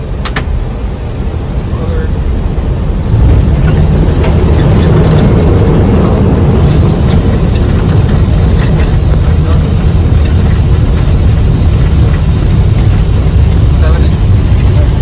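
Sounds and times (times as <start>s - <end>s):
low rumble of engines and wheels: 0.0s - 15.0s.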